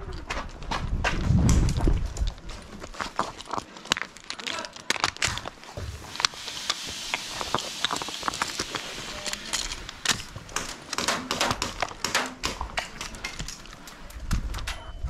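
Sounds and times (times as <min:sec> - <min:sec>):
footsteps: 0:00.0 - 0:14.7
gear rustling and clicking: 0:01.5 - 0:14.8.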